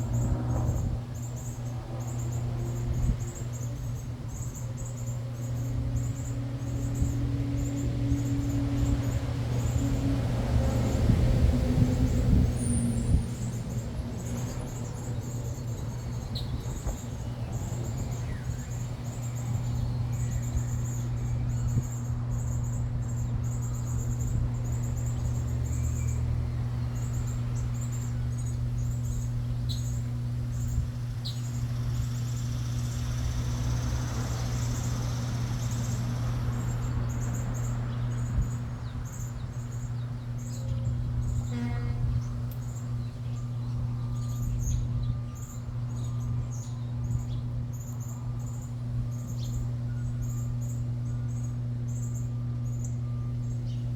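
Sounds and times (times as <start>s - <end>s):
small birds chirping: 0.0s - 53.9s
steady low hum: 0.0s - 53.9s.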